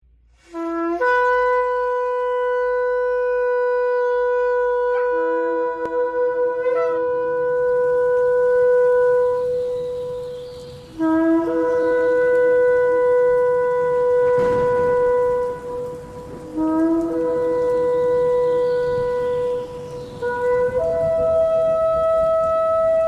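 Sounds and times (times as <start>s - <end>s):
shofar blast: 0.4s - 10.3s, 11.0s - 23.0s.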